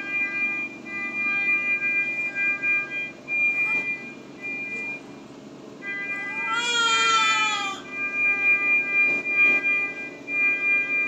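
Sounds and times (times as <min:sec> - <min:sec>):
electronic alarm beeping: 0:00.0 - 0:05.1, 0:05.8 - 0:11.0.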